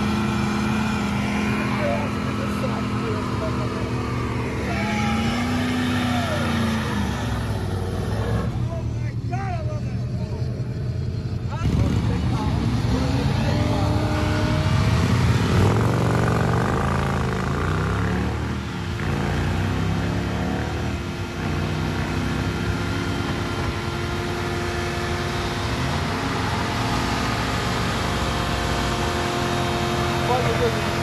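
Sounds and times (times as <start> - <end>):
car engine revving hard: 0.0 - 8.6, 11.6 - 31.0.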